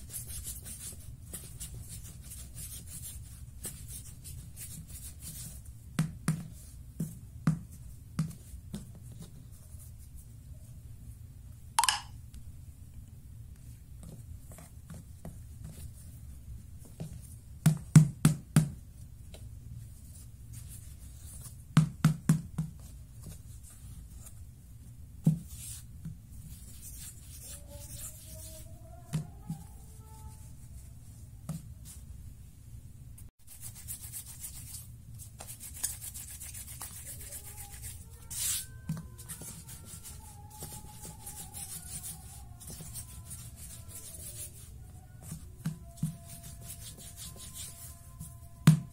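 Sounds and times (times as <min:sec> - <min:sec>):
hands rolling dough on board: 0:00.0 - 0:10.3, 0:13.5 - 0:24.4, 0:25.2 - 0:32.1, 0:33.5 - 0:48.9.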